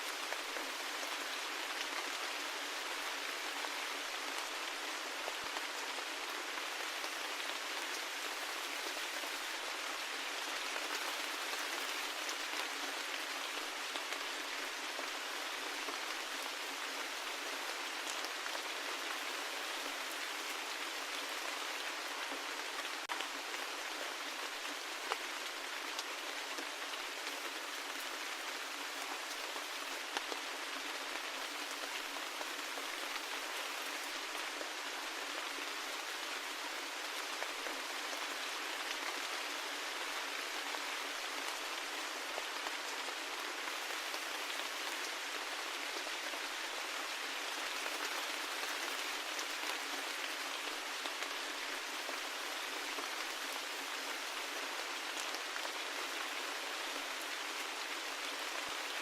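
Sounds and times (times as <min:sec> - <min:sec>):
steady rain patter: 0:00.0 - 0:59.0.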